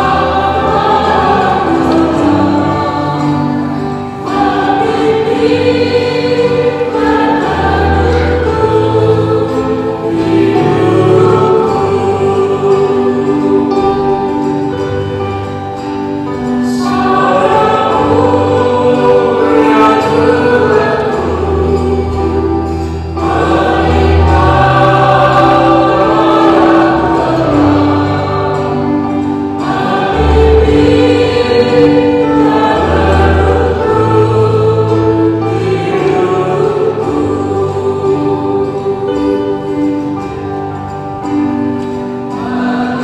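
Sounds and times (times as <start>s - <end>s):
church choir singing a hymn: 0.0s - 43.0s.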